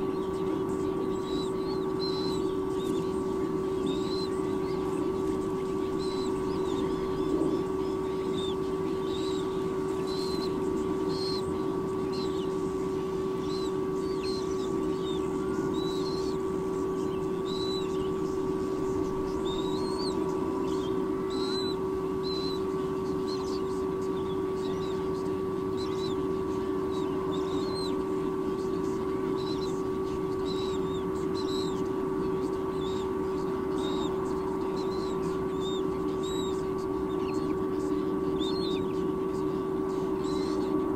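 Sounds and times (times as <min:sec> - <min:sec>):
eagle chicks peeping: 0:00.0 - 0:40.9
steady low hum: 0:00.0 - 0:40.9.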